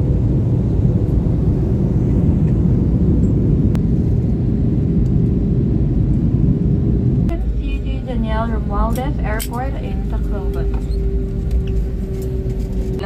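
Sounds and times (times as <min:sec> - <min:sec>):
jet airliner cabin rumble: 0:00.0 - 0:13.0
faint steady hum: 0:01.5 - 0:13.0.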